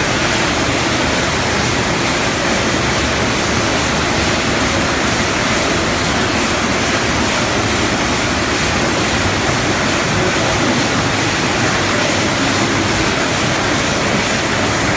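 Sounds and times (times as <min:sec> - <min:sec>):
processing machinery roar: 0:00.0 - 0:14.9.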